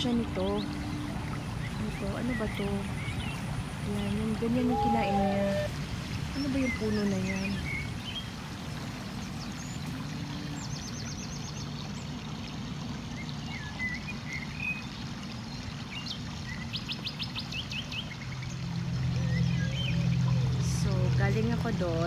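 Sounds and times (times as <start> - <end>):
wild birds chirping: 0.0 - 22.0.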